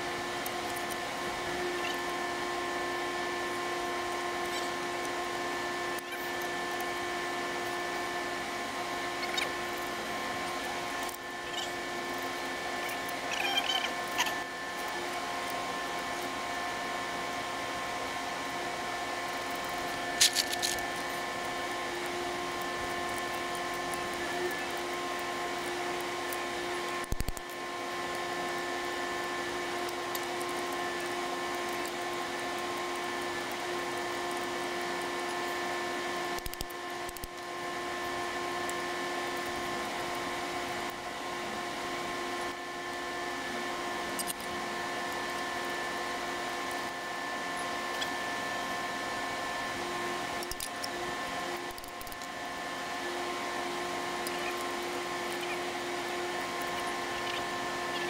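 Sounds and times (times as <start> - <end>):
steady machine whine: 0.0 - 58.0.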